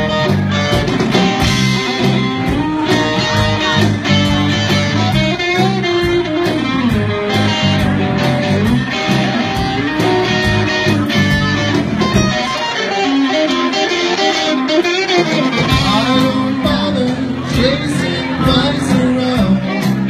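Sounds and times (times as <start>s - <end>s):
bass guitar: 0.0s - 20.0s
electric guitar lead: 0.0s - 20.0s.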